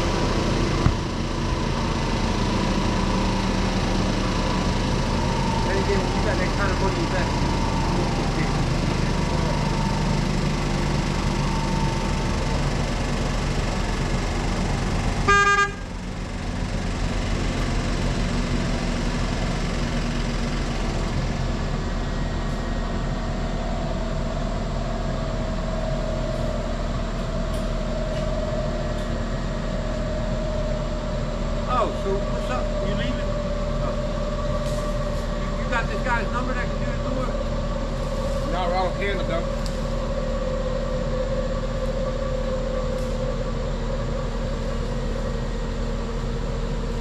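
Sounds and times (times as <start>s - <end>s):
steady whine: 0.0s - 47.0s
track loader diesel engine: 0.0s - 47.0s.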